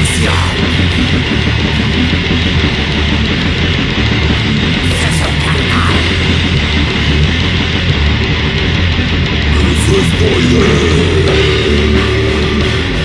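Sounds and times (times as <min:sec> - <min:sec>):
bass guitar: 0:00.0 - 0:13.0
drums: 0:00.0 - 0:13.0
heavily distorted guitar: 0:00.0 - 0:13.0.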